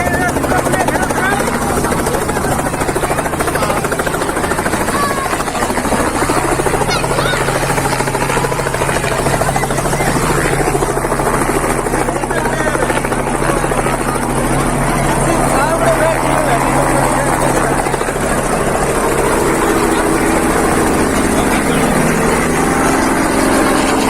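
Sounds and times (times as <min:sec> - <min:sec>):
helicopter rotor chopping overhead: 0:00.0 - 0:24.0.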